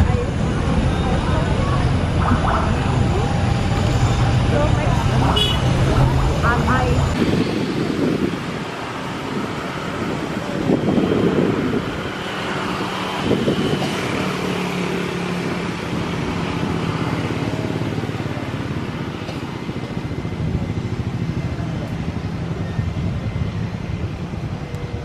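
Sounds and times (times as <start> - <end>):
engine noise outdoors: 0.0 - 25.0.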